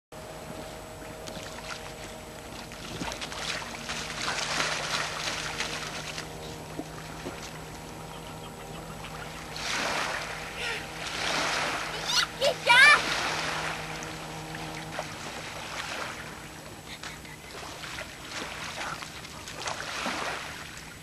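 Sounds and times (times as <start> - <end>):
faint steady hum: 0.2 - 21.0
hands paddling shallow water: 0.4 - 21.0.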